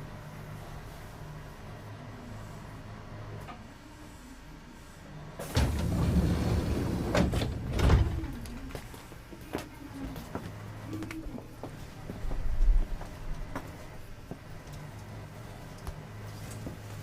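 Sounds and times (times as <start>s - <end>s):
railcar equipment humming: 0.0s - 17.0s.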